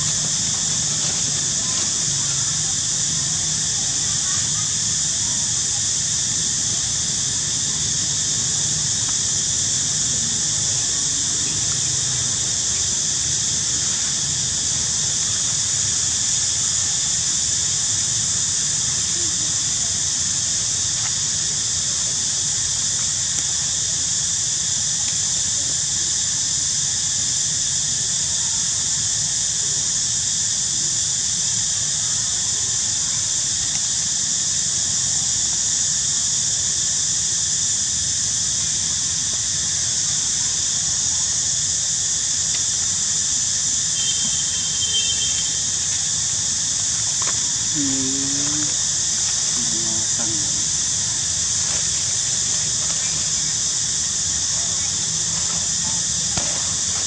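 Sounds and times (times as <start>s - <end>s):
high-pitched hiss: 0.0s - 57.0s.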